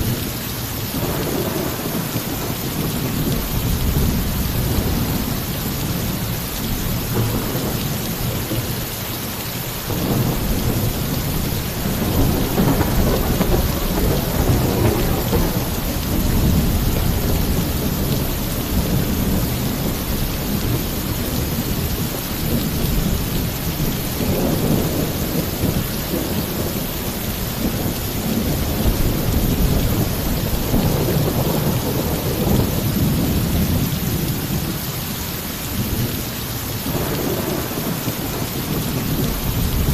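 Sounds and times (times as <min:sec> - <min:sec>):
heavy rain on a roof: 0:00.0 - 0:39.9
thunder rumbling: 0:00.0 - 0:39.9.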